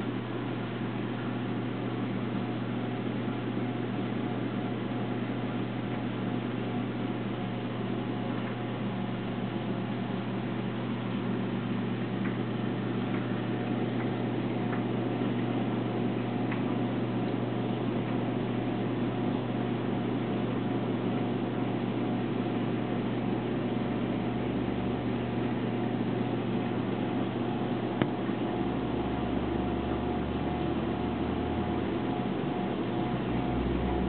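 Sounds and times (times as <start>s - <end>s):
aquarium pumps humming: 0.0s - 34.0s.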